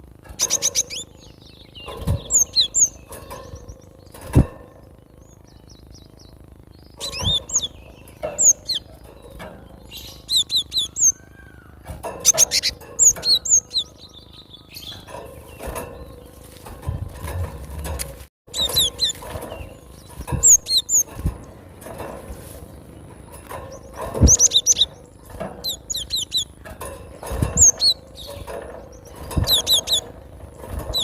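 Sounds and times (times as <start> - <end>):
bird buzzy rattles: 0.0 - 31.0.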